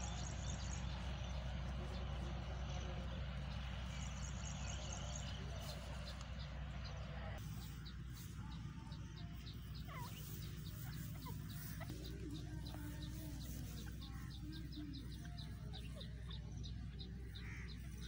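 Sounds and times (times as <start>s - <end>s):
bird soft low clucking calls: 0.0s - 18.0s.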